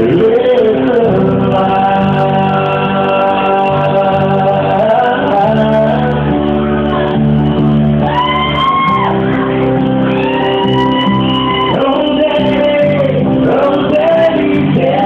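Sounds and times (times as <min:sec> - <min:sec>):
keyboard chords: 0:00.0 - 0:15.0.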